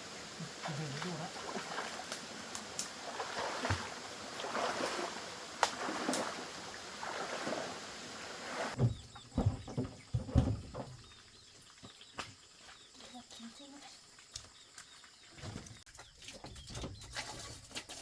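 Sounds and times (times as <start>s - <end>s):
water sloshing and splashing: 0.0s - 14.5s.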